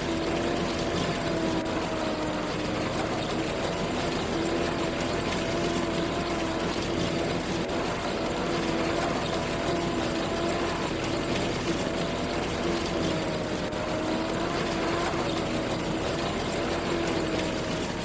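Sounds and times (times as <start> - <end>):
combine harvester running: 0.0 - 18.0
steady mechanical whine: 0.0 - 18.0.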